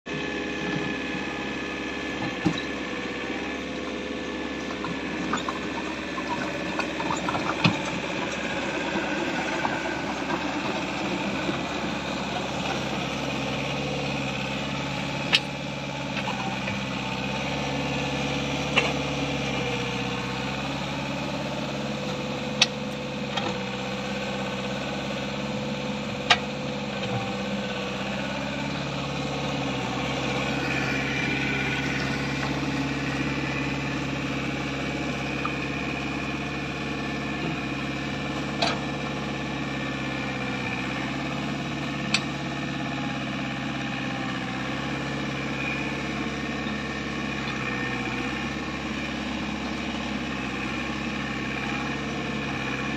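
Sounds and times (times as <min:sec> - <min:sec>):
mini excavator engine running: 0:00.1 - 0:52.9.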